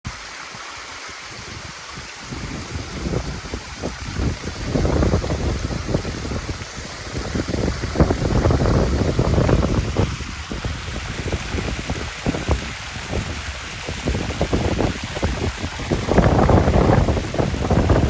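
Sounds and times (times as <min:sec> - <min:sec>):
wind buffeting microphone: 0:00.5 - 0:18.0.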